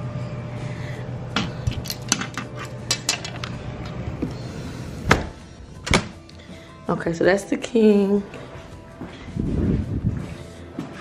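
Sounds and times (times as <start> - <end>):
steady low hum: 0.0 - 7.0, 8.2 - 11.0.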